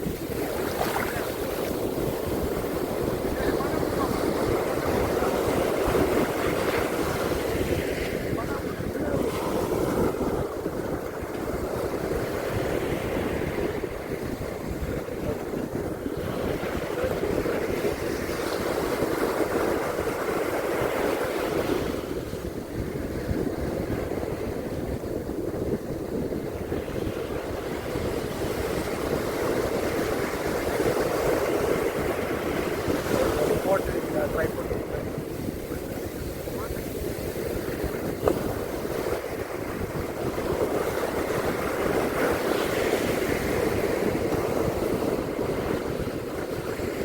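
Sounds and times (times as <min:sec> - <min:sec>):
surf washing on a beach: 0:00.0 - 0:47.0
wind buffeting microphone: 0:00.0 - 0:47.0.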